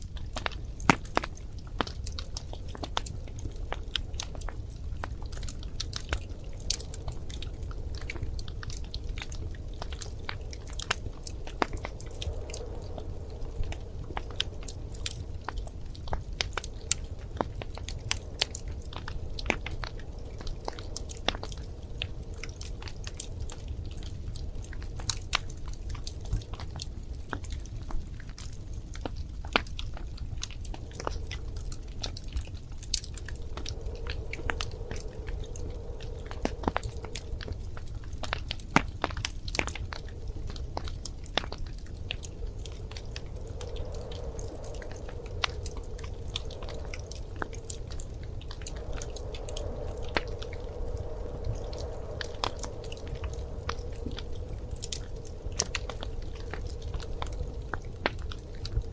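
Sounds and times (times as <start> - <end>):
low rumble of flame: 0.0 - 58.9
wood fire crackling: 0.0 - 58.9.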